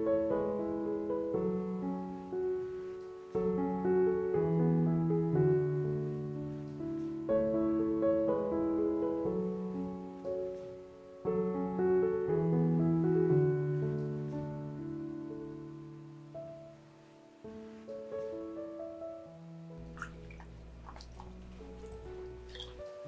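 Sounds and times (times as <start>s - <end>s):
gentle piano tune: 0.0s - 23.0s.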